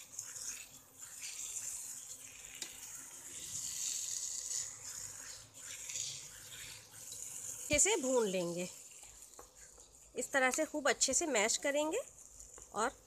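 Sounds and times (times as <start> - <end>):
food frying in oil: 0.0 - 13.0
metal spatula scraping pan: 0.0 - 13.0.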